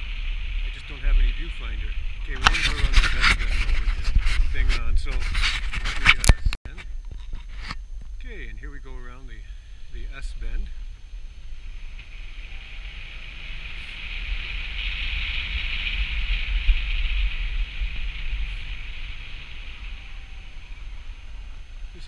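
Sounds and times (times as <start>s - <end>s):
road noise hiss: 0.0s - 22.0s
wind rumble on microphone: 0.0s - 22.0s.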